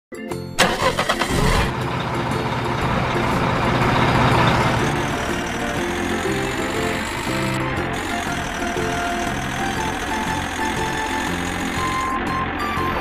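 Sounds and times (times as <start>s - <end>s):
background music: 0.1s - 13.0s
engine starting with a clack: 0.6s - 12.4s.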